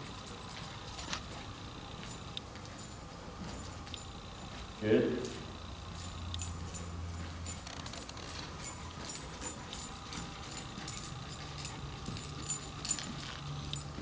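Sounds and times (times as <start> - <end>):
dog footsteps: 0.0 - 14.0
dog leash jingling: 0.0 - 14.0.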